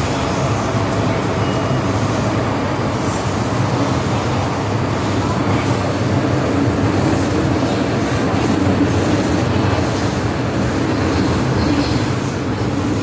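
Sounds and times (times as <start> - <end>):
train running at speed: 0.0 - 13.0.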